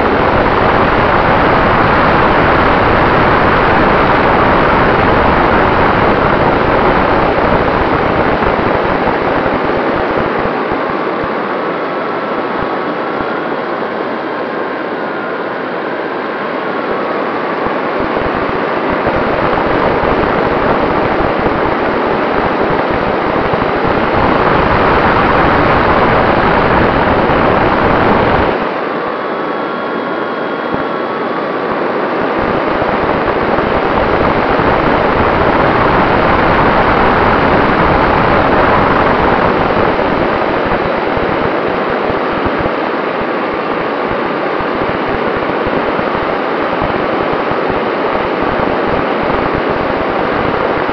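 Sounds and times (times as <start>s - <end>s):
electric motor and propeller whine: 0.0s - 50.9s.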